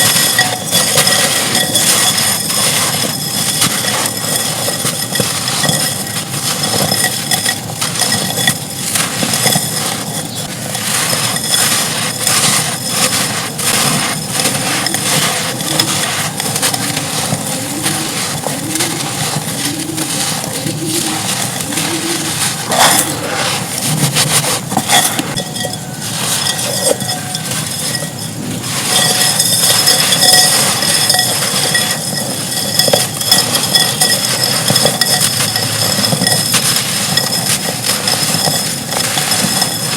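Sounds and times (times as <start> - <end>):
dry clay crumbling: 0.0 - 39.9.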